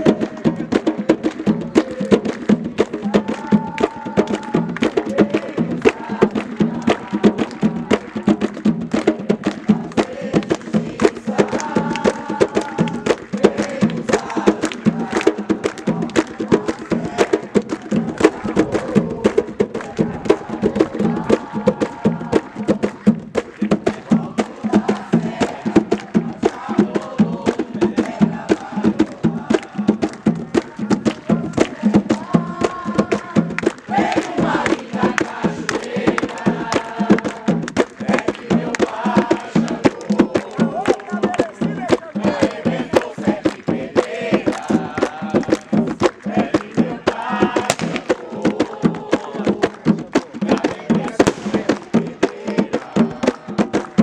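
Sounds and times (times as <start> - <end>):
group of voices chanting: 0.0 - 54.0
hand drums beating: 0.0 - 54.0
sharp clacking percussion: 0.0 - 54.0.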